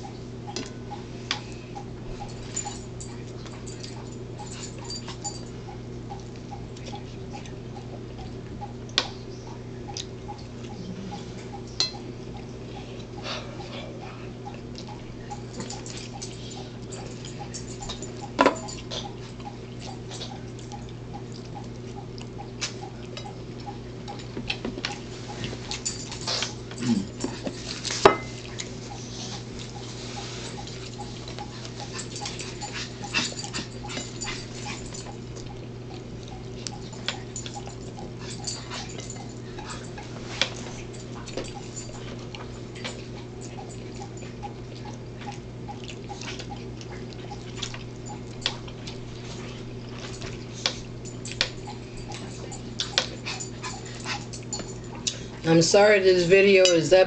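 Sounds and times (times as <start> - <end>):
low electrical hum: 0.0 - 57.0
mouth clicks and smacks eating: 5.0 - 13.7, 14.3 - 55.4.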